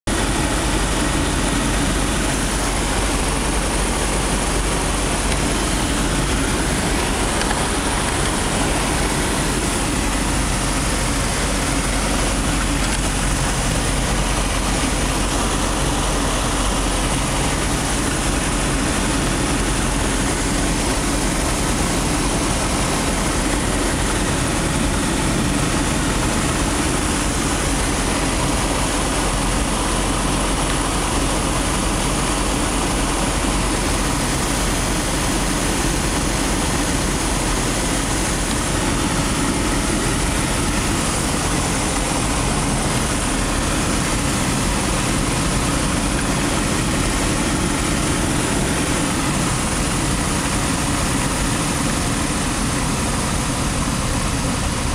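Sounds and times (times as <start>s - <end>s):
glider engine and propeller running: 0.1s - 54.9s.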